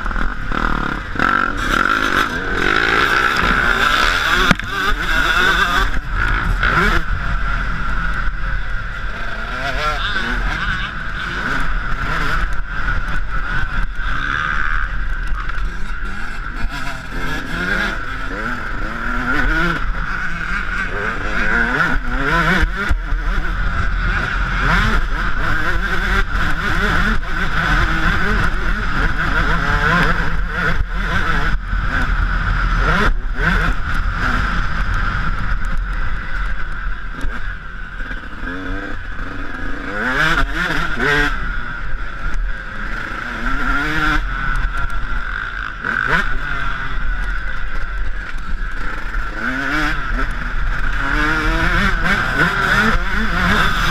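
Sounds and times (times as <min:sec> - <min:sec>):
two-stroke motocross engine revving: 0:00.0 - 0:53.9.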